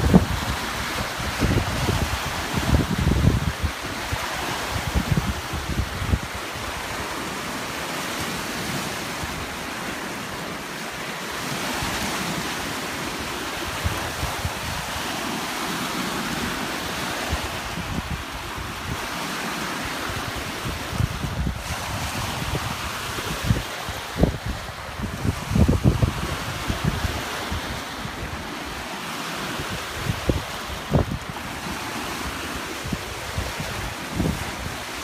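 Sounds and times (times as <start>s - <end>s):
wind buffeting microphone: 0.0s - 7.5s, 11.4s - 35.0s
lake water lapping: 0.0s - 35.0s.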